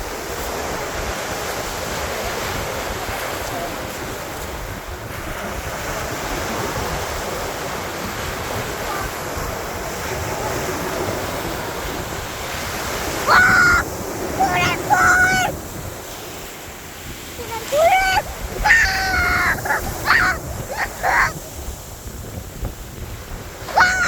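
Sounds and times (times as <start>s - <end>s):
sea waves washing onto beach: 0.0s - 24.0s
wind rumbling on microphone: 0.0s - 24.0s.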